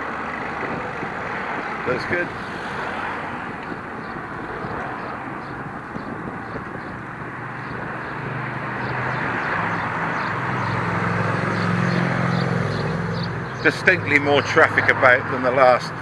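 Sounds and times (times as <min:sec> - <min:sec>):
wind rushing over microphone: 0:00.0 - 0:14.1
road traffic: 0:00.0 - 0:16.0
vehicle engine hum: 0:00.0 - 0:16.0.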